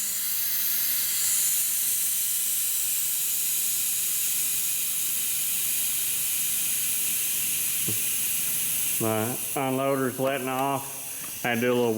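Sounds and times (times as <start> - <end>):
compressed air hissing: 0.0 - 11.9.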